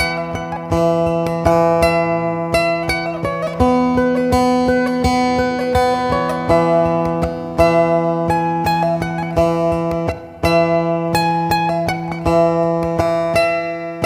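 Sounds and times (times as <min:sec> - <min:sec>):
plucked guitar: 0:00.0 - 0:14.0.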